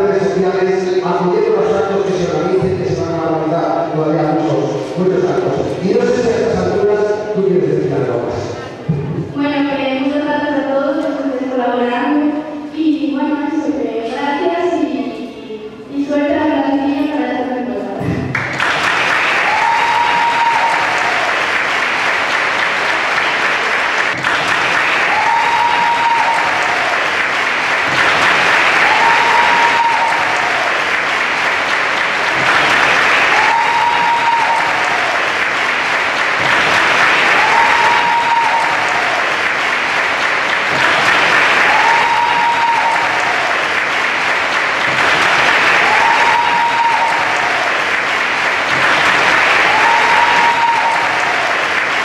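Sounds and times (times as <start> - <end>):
crowd applauding: 0.0 - 9.3, 18.1 - 52.0.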